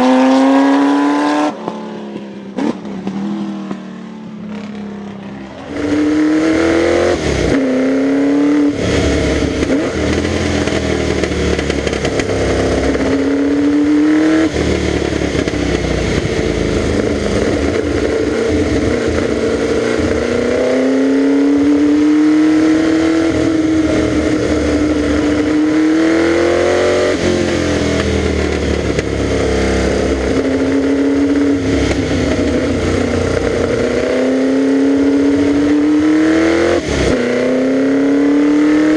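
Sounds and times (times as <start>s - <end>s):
racing engine revving: 0.0s - 38.9s.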